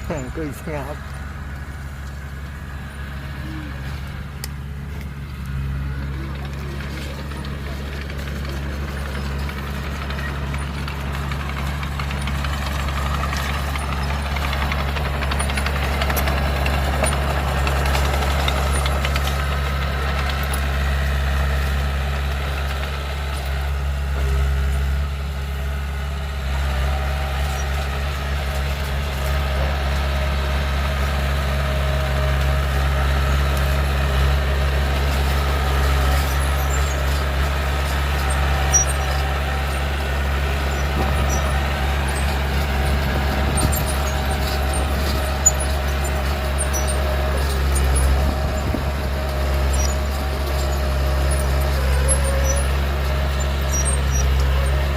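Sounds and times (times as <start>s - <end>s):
heavy diesel engine droning: 0.0s - 54.9s.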